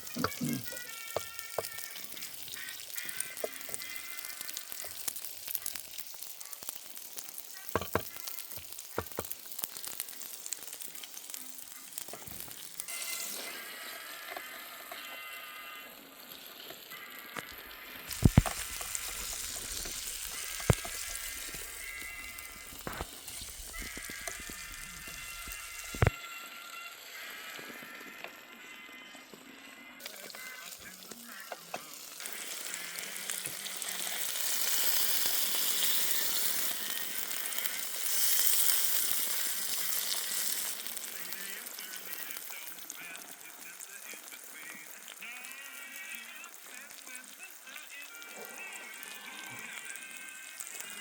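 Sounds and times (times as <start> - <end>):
background music: 0.0 - 5.2, 11.2 - 51.0
steak sizzling on hot stone: 0.0 - 28.1, 30.0 - 51.0.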